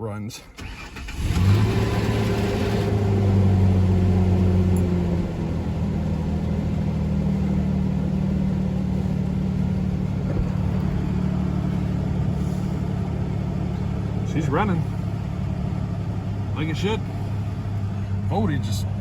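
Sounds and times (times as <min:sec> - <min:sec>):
car engine idling: 0:00.6 - 0:19.0.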